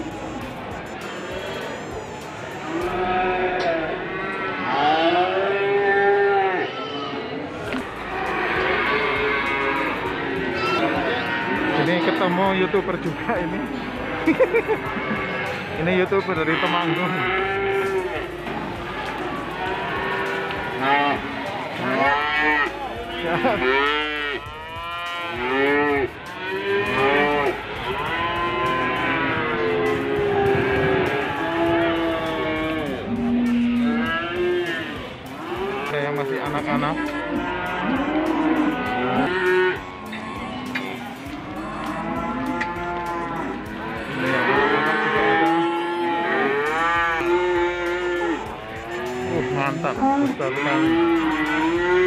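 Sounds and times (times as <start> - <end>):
cattle mooing: 2.6 - 6.8, 7.7 - 14.2, 14.9 - 52.0.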